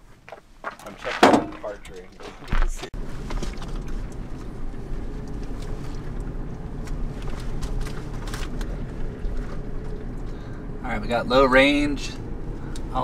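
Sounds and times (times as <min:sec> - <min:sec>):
engine and tyre rumble: 0:00.0 - 0:13.0
faint steady hum: 0:01.0 - 0:13.0.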